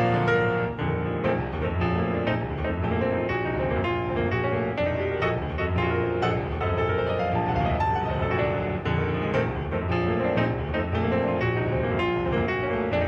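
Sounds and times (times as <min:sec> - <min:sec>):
instrumental piano music: 0:00.0 - 0:13.0.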